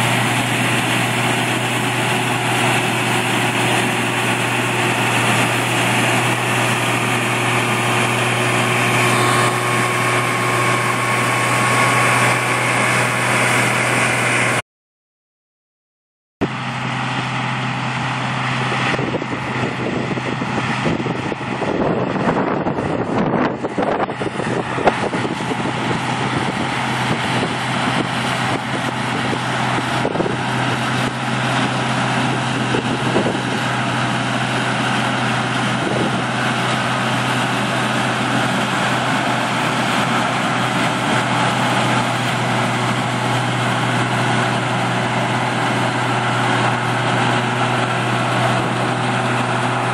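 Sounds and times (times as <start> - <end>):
heavy farm machinery running: 0.0 - 14.6, 16.4 - 49.9.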